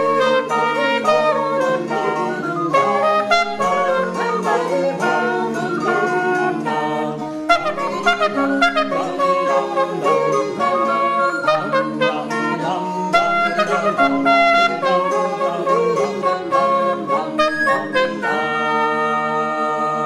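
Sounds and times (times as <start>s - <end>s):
plucked string notes: 0.0s - 18.3s
reedy wind pipe melody: 0.0s - 20.0s.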